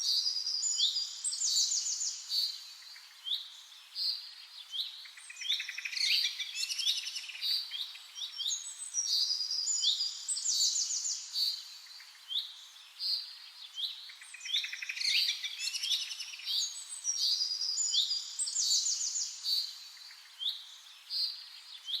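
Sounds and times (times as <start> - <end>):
songbirds chirping and twittering: 0.0 - 22.0.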